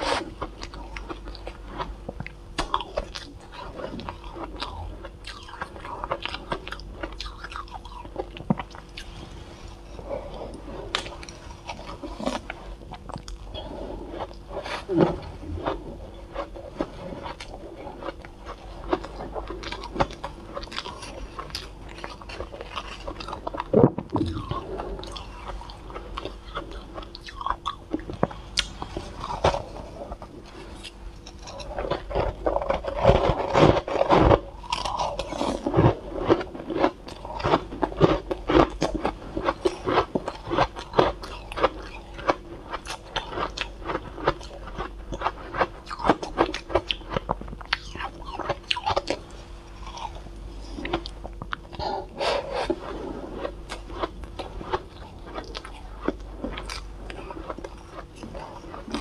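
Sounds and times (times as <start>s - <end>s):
chewing crunchy shaved ice: 0.0s - 59.0s.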